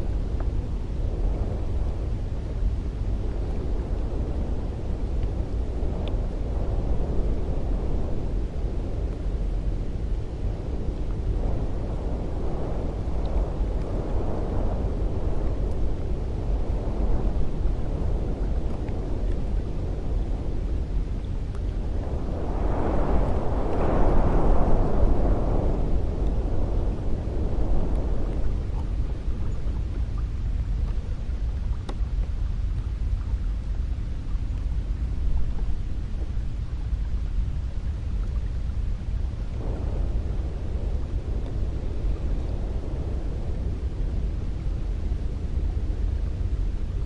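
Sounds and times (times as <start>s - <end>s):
wind blowing: 0.0s - 47.0s.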